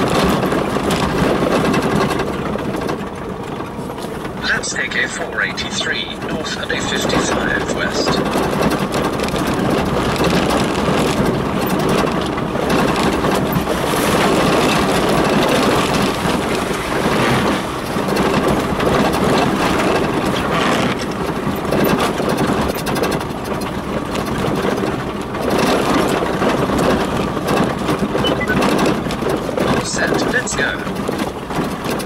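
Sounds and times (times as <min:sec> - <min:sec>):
rumble and buffeting on dirt track: 0:00.0 - 0:32.0
vehicle engine running: 0:00.0 - 0:32.0.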